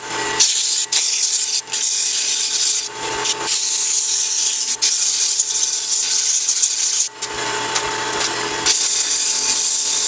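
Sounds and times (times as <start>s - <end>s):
lathe whine: 0.0s - 10.0s.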